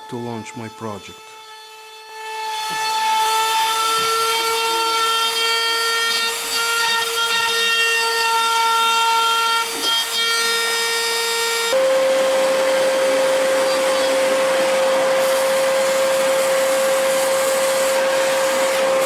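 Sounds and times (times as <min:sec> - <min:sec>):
cutter rasping wood: 0:00.0 - 0:19.0
rotary tool high whine: 0:00.0 - 0:19.0.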